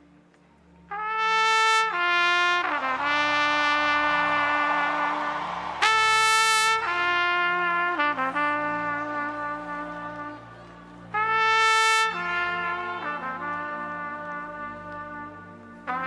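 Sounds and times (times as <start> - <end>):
soft steady accompaniment: 0.0 - 16.0
solo trumpet slow melody: 0.9 - 16.0.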